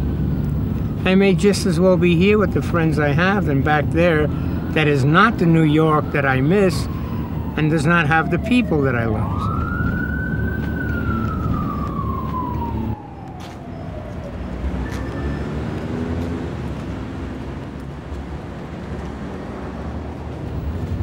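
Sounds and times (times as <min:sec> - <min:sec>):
emergency vehicle siren wailing: 0:00.0 - 0:17.8
street background: 0:00.0 - 0:21.0
traffic rumble: 0:00.0 - 0:21.0.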